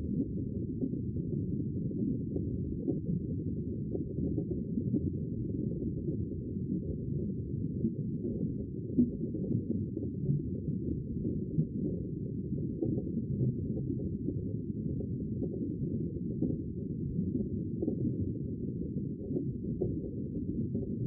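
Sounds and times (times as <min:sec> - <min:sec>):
underwater rumble of moving water: 0:00.0 - 0:21.0.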